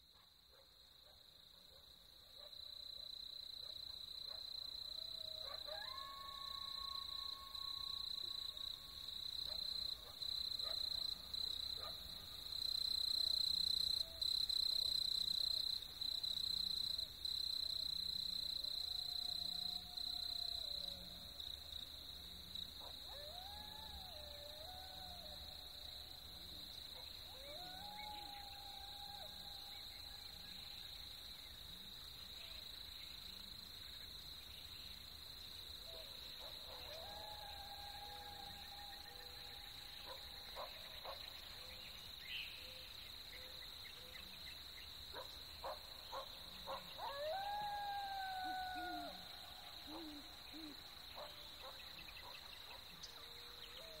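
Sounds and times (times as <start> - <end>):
insects trilling: 3.1 - 54.0.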